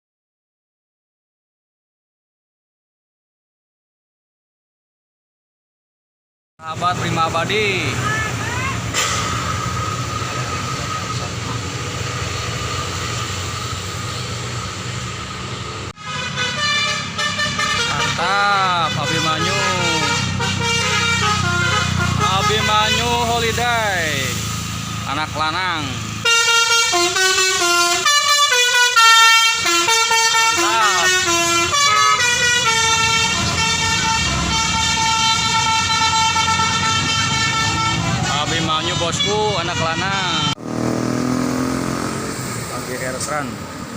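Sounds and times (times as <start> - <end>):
bus engine and road noise: 6.6 - 43.9.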